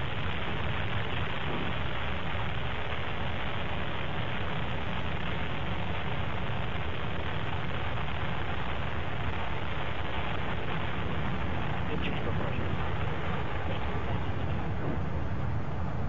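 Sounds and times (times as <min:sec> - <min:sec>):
rocket engines rumbling: 0:00.0 - 0:16.0.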